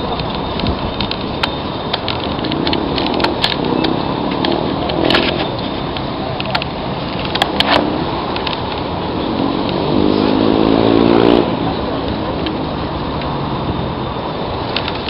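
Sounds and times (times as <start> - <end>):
bicycle riding rushing noise: 0.0 - 15.0
motor vehicle engine rising in pitch: 2.4 - 14.7.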